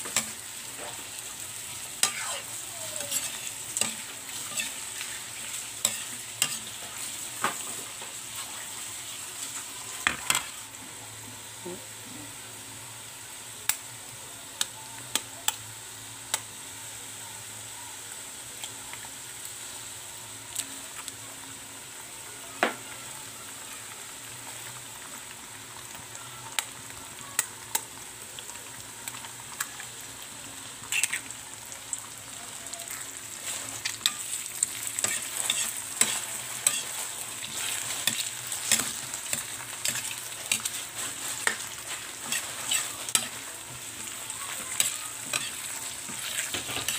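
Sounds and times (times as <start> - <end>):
vegetables sizzling in oil: 0.0 - 46.9.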